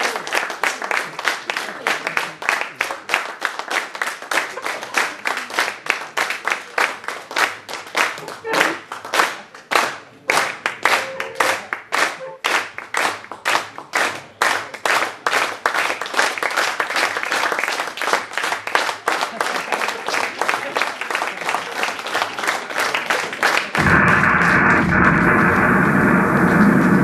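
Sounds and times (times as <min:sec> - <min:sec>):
audience clapping: 0:00.0 - 0:27.0.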